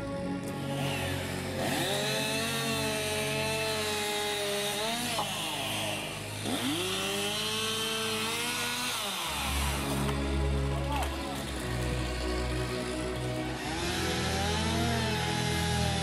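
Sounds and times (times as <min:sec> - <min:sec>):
chainsaw cutting tree trunk: 0:00.4 - 0:16.0.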